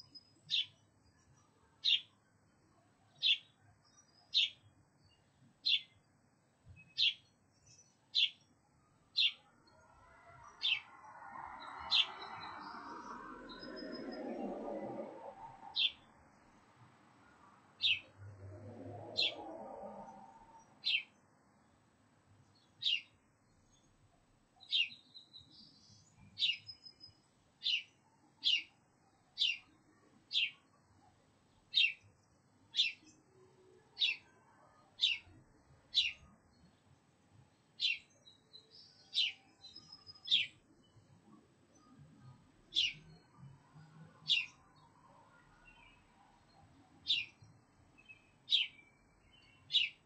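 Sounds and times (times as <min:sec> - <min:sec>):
songbird chirping: 0:00.0 - 0:50.0.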